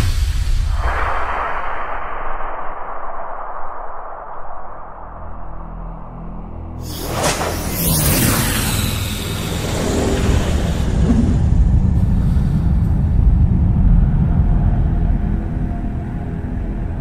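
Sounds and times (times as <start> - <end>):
passing whoosh: 0.0 - 15.0
deep spaceship engine rumble: 3.1 - 17.0.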